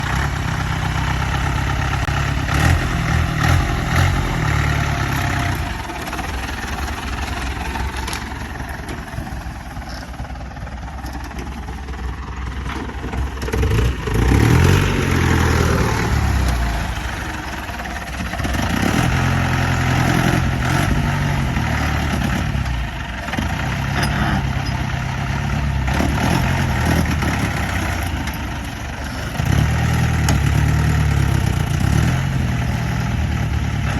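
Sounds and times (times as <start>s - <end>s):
jeep engine revving: 0.0s - 8.7s, 13.4s - 33.9s.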